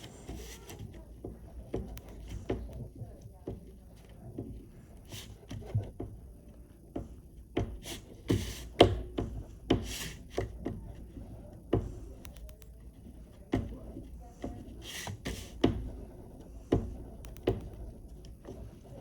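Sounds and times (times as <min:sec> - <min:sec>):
oil pastel scratching on paper: 0:00.0 - 0:06.1, 0:06.8 - 0:12.2, 0:12.8 - 0:19.0.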